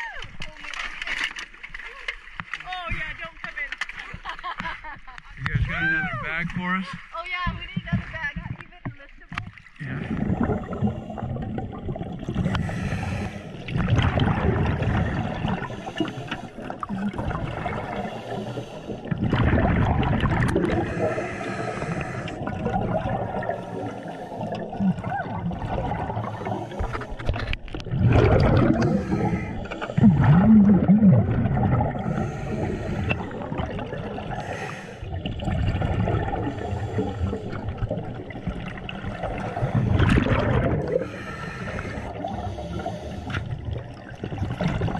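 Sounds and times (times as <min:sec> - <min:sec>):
underwater regulator bubbling: 0:03.8 - 0:44.9.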